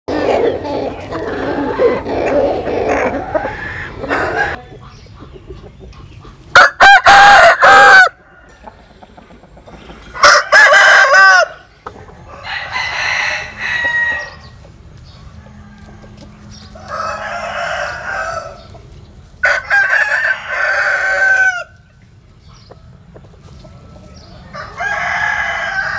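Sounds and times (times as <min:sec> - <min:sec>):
roosters crowing: 0:00.1 - 0:05.5, 0:06.3 - 0:25.9.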